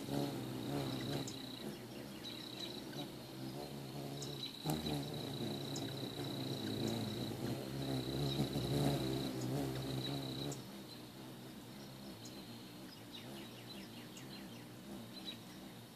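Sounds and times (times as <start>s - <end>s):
hummingbird wings humming: 0.0s - 15.9s.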